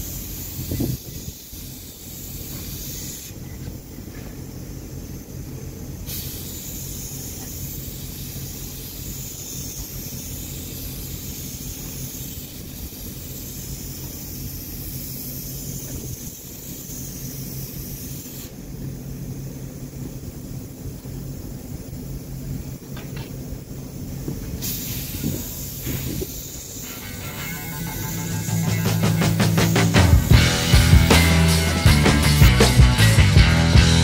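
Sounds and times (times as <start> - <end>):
paint spray gun hissing: 0.0 - 34.0.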